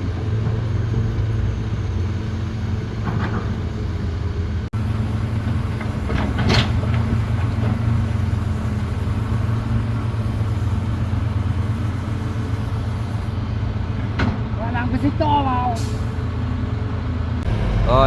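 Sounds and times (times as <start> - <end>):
heavy diesel engines running: 0.0 - 18.0.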